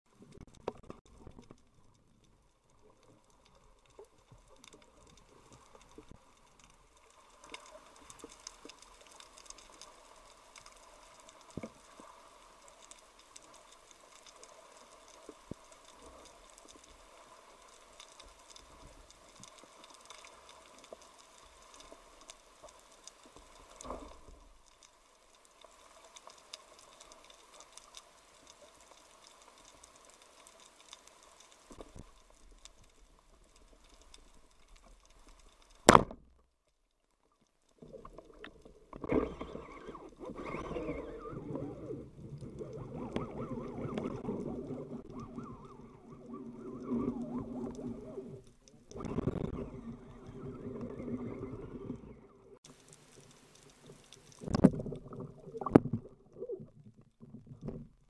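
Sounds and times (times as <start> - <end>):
underwater crackle of clicks: 0.1 - 58.0.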